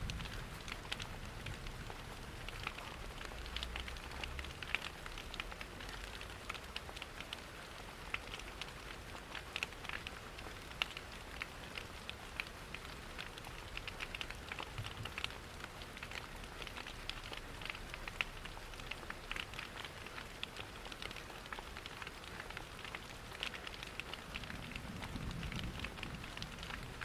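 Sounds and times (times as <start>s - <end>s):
rain pattering: 0.0s - 27.0s
wood fire crackling: 0.0s - 27.0s.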